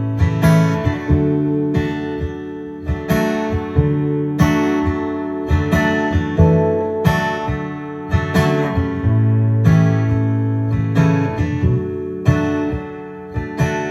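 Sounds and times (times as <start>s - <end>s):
acoustic guitar strumming chords: 0.0s - 13.9s.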